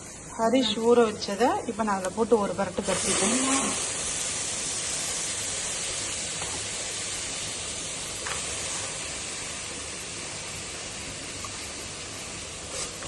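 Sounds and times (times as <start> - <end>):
pot sizzling: 0.0 - 13.0.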